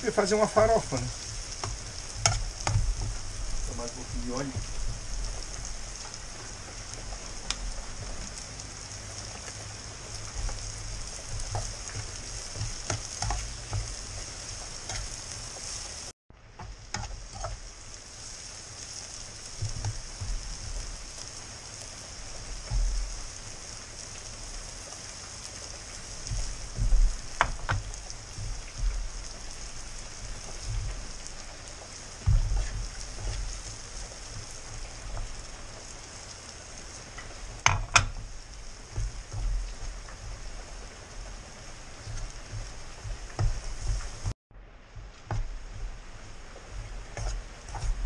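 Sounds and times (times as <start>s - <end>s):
seeds sizzling in oil: 0.0s - 48.0s.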